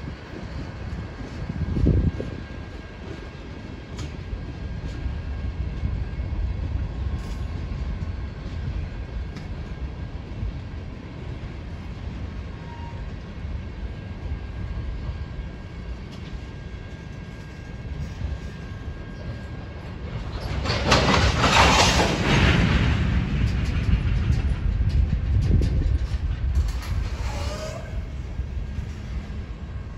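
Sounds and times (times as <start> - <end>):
train rumbling by: 0.0 - 29.9.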